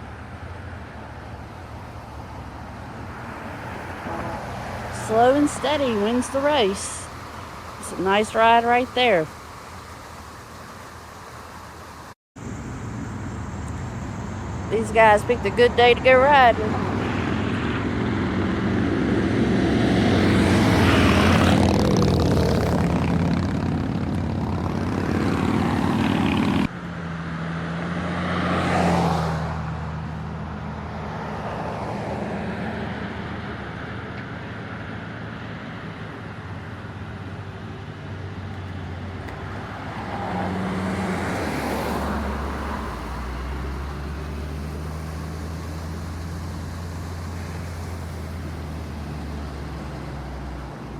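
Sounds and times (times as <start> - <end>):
vehicles driving past: 0.0 - 50.9.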